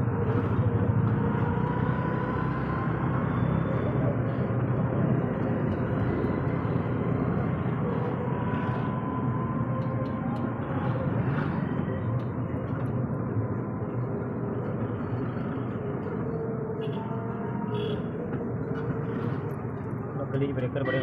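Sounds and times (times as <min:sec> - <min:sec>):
rickshaw motor and road noise: 0:00.0 - 0:21.0
traffic rumble: 0:00.0 - 0:21.0.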